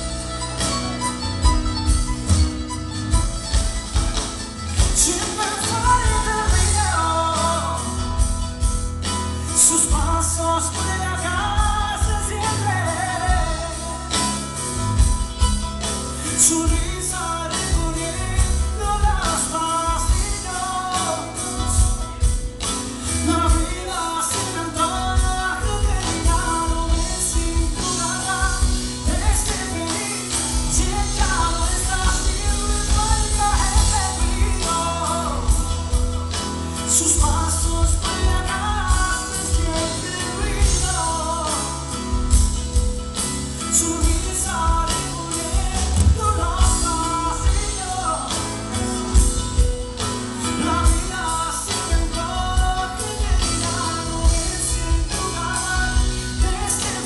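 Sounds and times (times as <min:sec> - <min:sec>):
live band playing pop ballad: 0:00.0 - 0:57.0
man singing into microphone: 0:04.7 - 0:15.1, 0:15.9 - 0:57.0.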